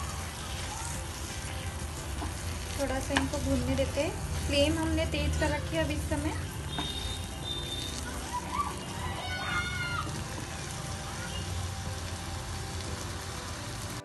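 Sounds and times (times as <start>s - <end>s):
vegetable mash sizzling in a pan: 0.0s - 14.0s.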